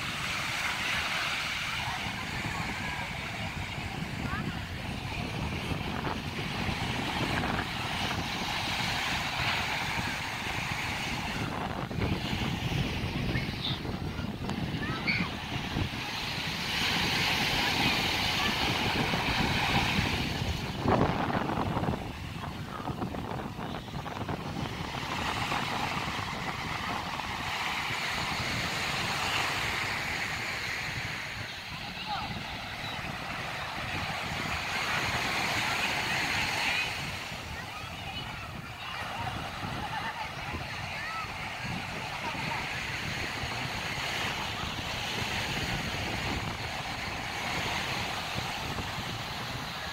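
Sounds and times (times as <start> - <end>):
faint distant voices: 0.0 - 49.9
ocean surf on beach: 0.0 - 49.9
wind on microphone: 0.0 - 49.9.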